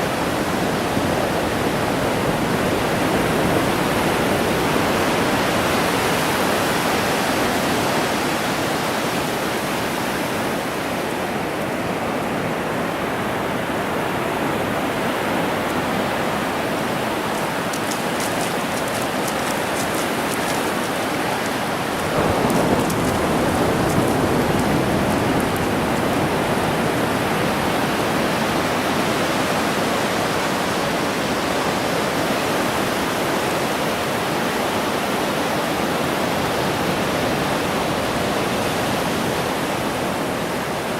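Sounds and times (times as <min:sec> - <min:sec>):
ocean surf rushing: 0:00.0 - 0:40.9.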